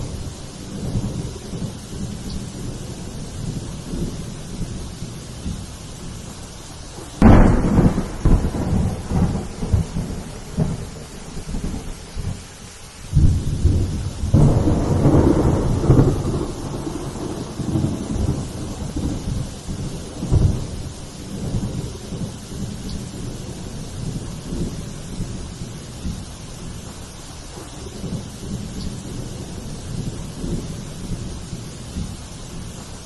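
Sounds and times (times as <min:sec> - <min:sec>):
thunder clap: 0:00.0 - 0:06.3, 0:06.9 - 0:12.4, 0:13.1 - 0:33.0
rolling thunder rumble: 0:00.0 - 0:33.0
steady rain: 0:00.0 - 0:33.0.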